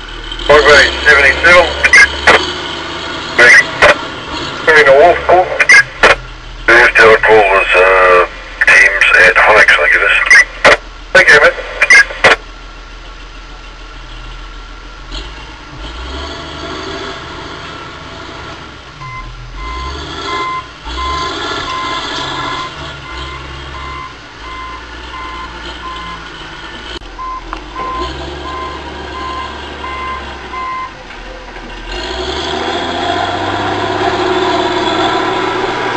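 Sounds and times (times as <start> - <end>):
diesel excavator engine: 0.0 - 35.9.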